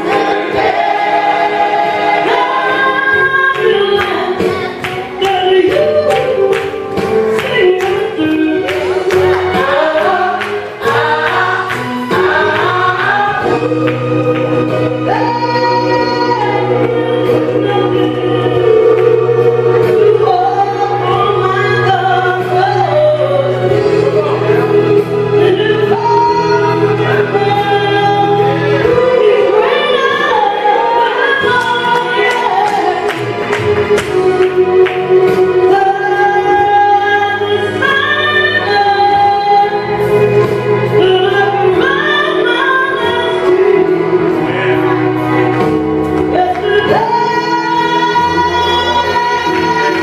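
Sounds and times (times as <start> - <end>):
gospel group singing in harmony: 0.0 - 50.0
instrumental accompaniment: 0.0 - 50.0.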